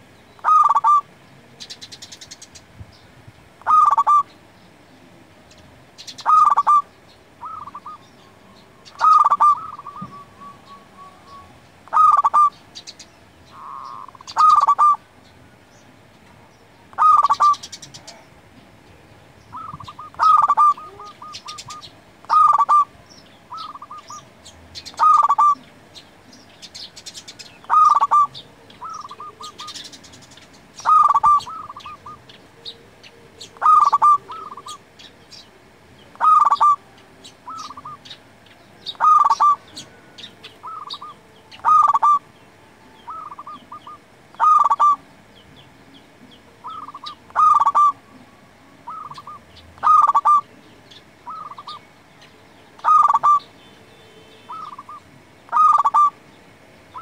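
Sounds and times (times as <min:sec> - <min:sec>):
dove cooing song: 0:00.0 - 0:02.7, 0:03.6 - 0:57.0
small birds chirping: 0:00.0 - 0:57.0.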